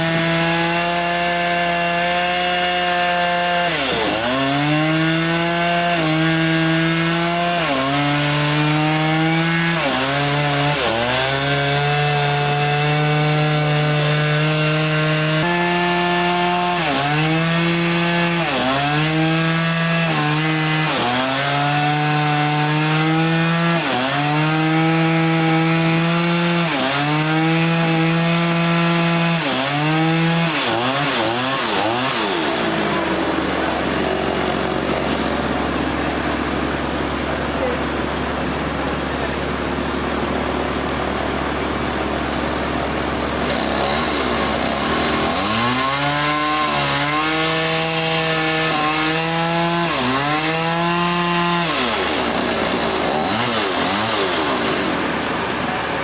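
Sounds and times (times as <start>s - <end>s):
saw cutting through a log: 0.0s - 56.0s.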